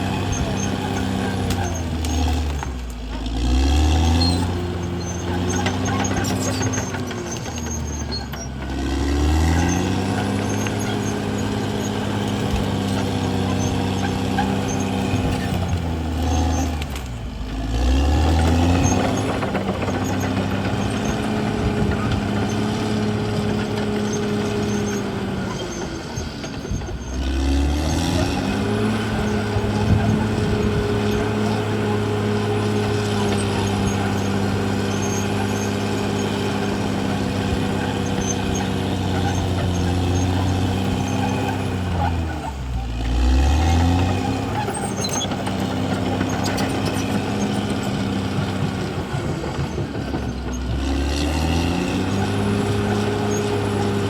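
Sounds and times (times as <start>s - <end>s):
bulldozer diesel engine surging: 0.0s - 54.0s.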